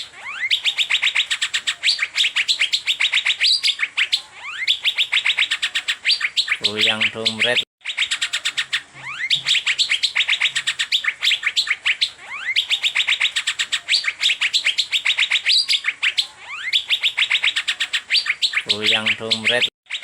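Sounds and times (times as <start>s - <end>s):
bird singing sharp chirps: 0.0s - 20.0s
rising bird whistles: 0.0s - 20.0s.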